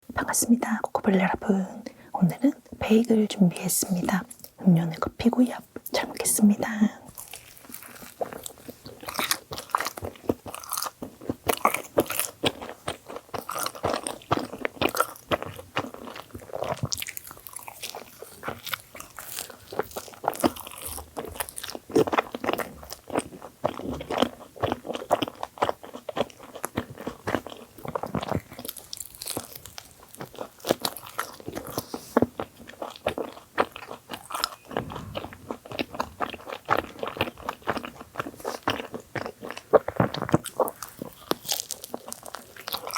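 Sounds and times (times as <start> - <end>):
biting and chewing bagel: 7.1 - 42.9.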